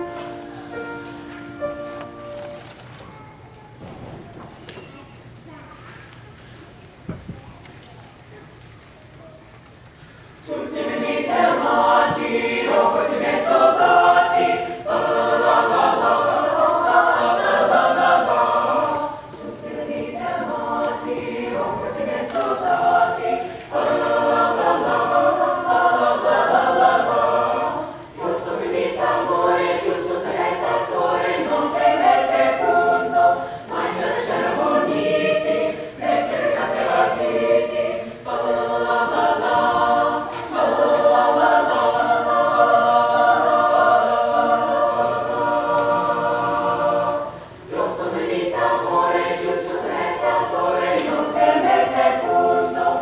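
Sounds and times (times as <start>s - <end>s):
choir singing: 10.4s - 53.0s.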